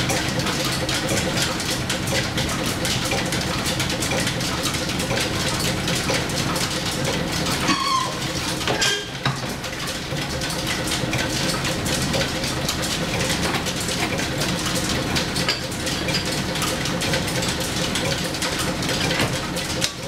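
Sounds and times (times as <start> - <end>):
line shaft and belts running: 0.0 - 20.0.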